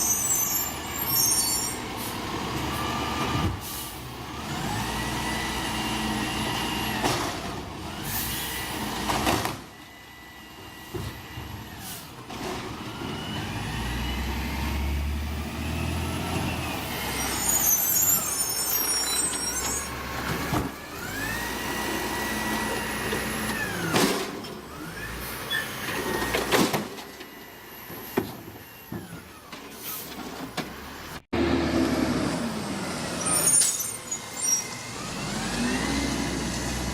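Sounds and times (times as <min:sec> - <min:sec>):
garbage truck hydraulics whining: 0:00.0 - 0:36.9.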